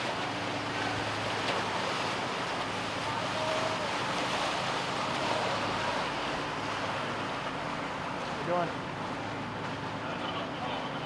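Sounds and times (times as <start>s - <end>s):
boat engine hum: 0.0s - 11.0s.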